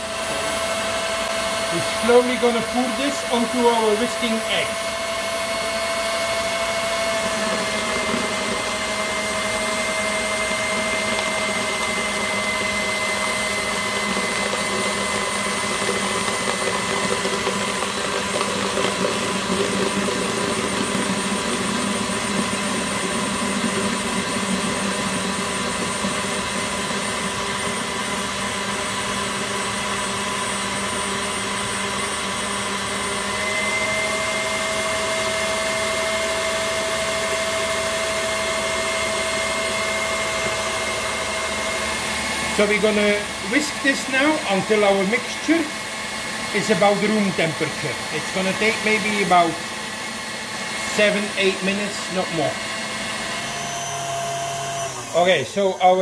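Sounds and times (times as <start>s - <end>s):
stand mixer motor whine: 0.0s - 56.0s.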